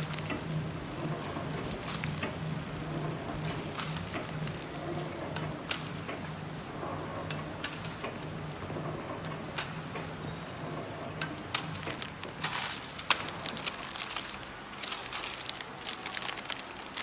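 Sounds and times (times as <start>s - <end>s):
packing machine humming: 0.0s - 17.0s.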